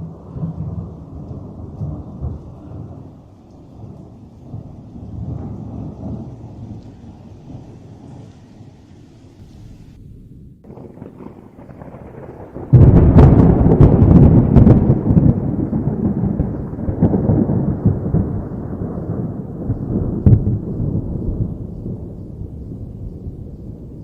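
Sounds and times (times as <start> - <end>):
thunder crack and rumble: 0.0 - 24.0.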